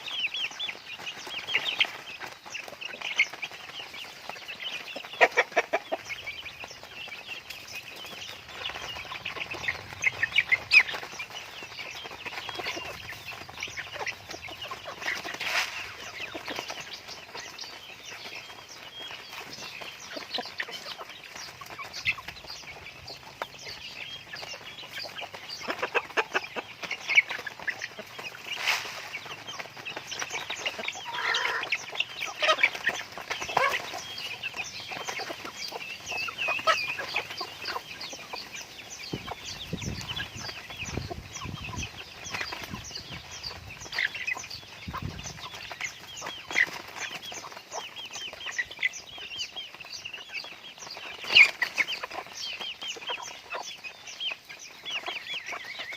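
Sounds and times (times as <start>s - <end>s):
chickens clucking and chirping: 0.0s - 55.9s.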